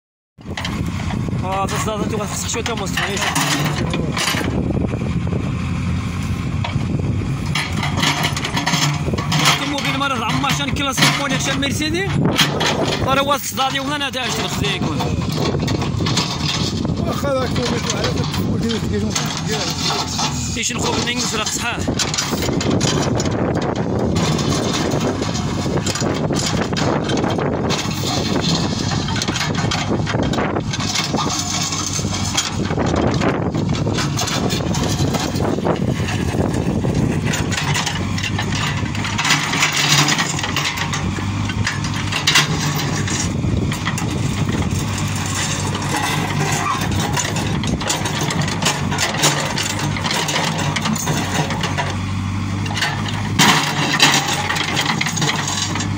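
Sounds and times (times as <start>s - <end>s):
bucket digging rocky ground: 0.4s - 4.9s, 5.7s - 55.9s
diesel engine running: 0.4s - 55.9s
stone and steel knocks: 7.4s - 52.0s, 52.6s - 55.9s.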